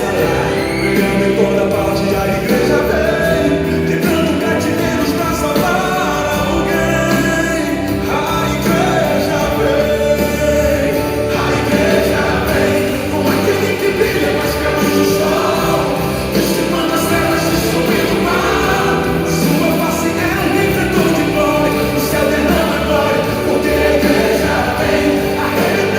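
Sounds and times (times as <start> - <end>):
gospel singing over backing music: 0.0 - 25.9.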